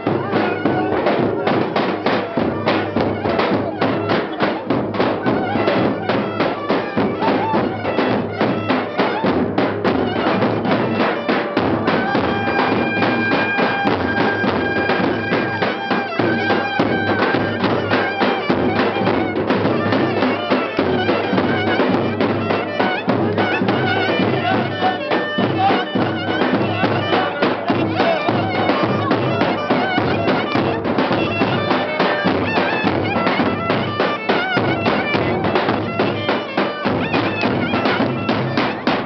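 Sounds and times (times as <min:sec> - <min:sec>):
shrill reed wind instrument melody: 0:00.0 - 0:39.0.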